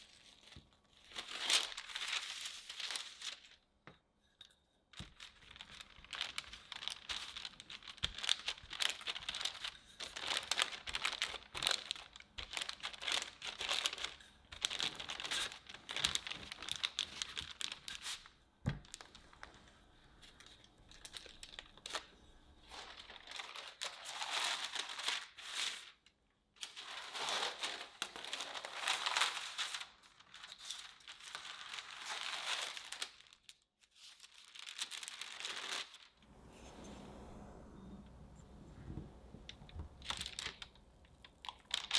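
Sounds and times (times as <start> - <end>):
parchment paper crinkling: 0.0 - 3.6, 4.9 - 41.9.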